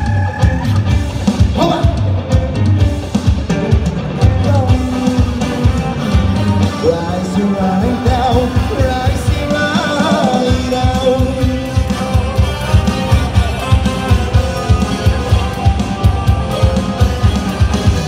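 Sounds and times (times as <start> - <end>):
electric guitar: 0.0 - 18.0
keyboard: 0.0 - 18.0
steady drum beat: 0.0 - 18.0.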